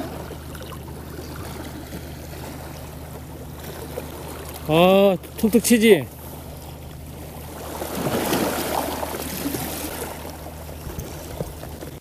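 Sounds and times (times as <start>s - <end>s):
boat engine idling: 0.0s - 12.0s
water rushing: 0.0s - 12.0s
wind: 0.0s - 12.0s.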